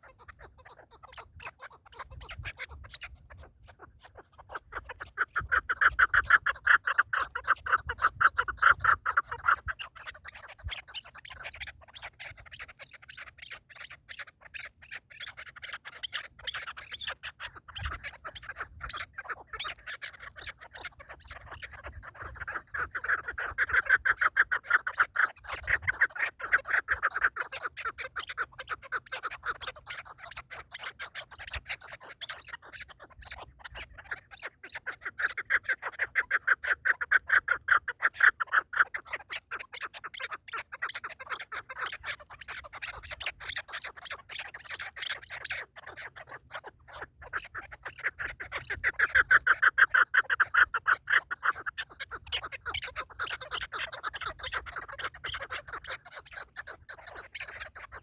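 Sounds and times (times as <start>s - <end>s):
partridge clucking calls: 0.0s - 58.0s.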